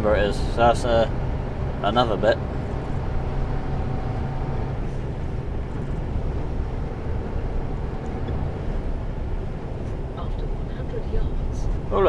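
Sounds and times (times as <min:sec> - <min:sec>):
lorry diesel engine running: 0:00.0 - 0:12.0
road noise: 0:00.0 - 0:12.0.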